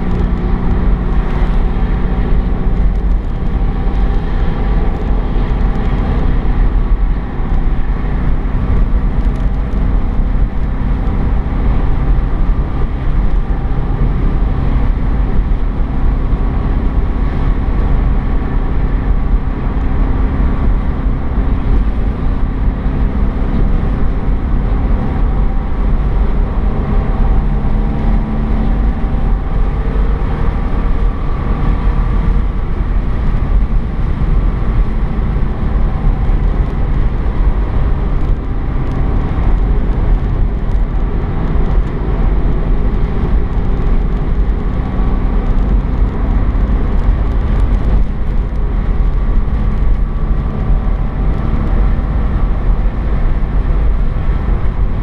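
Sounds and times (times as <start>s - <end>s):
car engine running: 0.0s - 55.0s
road and wind noise: 0.0s - 55.0s.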